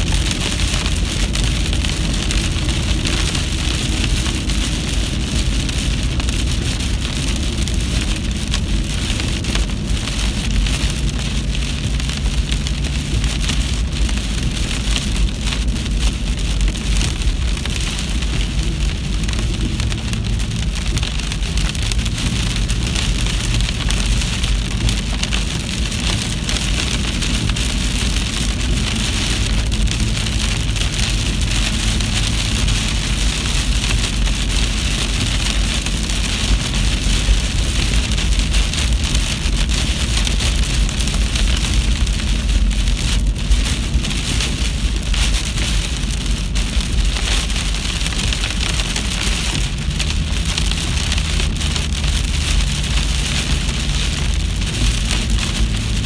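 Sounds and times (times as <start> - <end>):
constant low rumble: 0.0 - 56.0
steady rain falling: 0.0 - 56.0.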